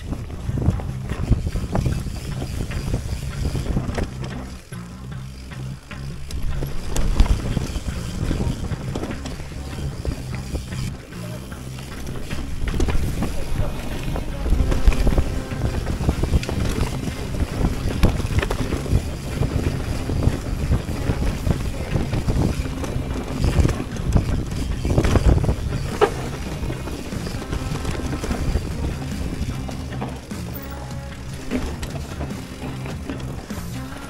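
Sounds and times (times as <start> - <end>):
wind buffeting microphone: 0.0 - 33.6
bike knocks and rattles: 0.0 - 34.0
mountain bike rumble and clatter: 0.0 - 34.0
tyres running over stones: 0.0 - 34.0.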